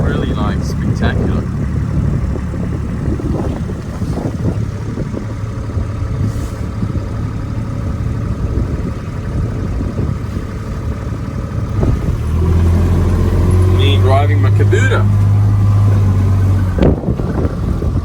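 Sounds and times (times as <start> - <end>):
farm vehicle engine running: 0.0 - 18.0.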